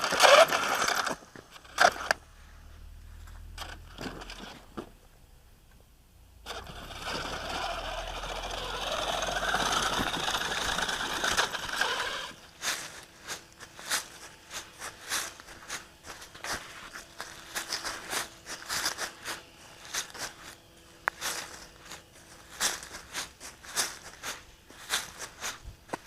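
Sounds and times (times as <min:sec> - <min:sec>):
sharp crunches and clicks: 0:00.0 - 0:02.2, 0:06.5 - 0:26.0
rc truck driving: 0:00.0 - 0:05.1, 0:06.4 - 0:24.2
faint steady hum: 0:00.0 - 0:26.0.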